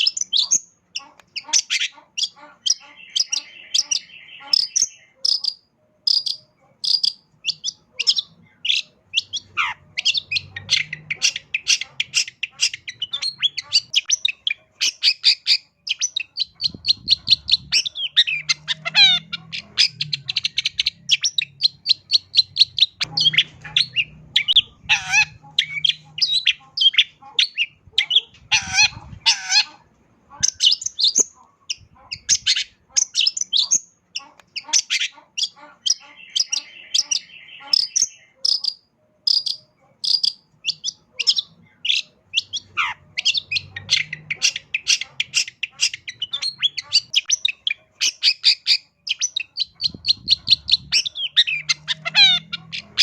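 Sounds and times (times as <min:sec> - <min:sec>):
bird singing rapid chirps and trills: 0:00.0 - 0:53.0.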